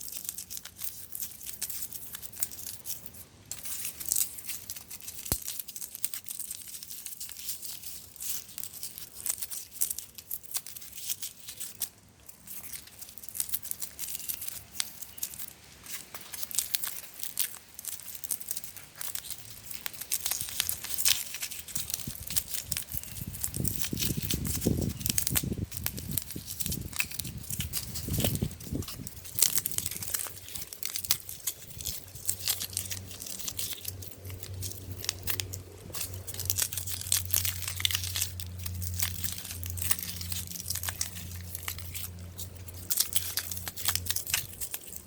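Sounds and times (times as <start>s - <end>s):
foam board crackling and snapping: 0.0s - 45.0s.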